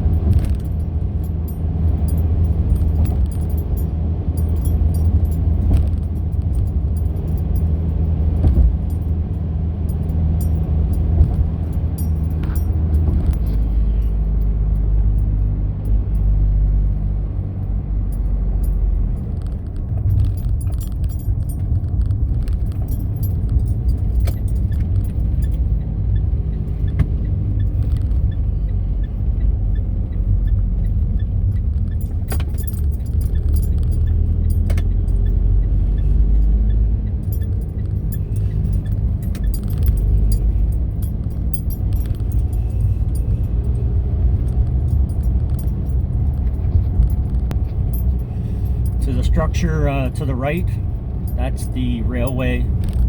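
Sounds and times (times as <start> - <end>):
car engine and road drone: 0.0 - 53.0.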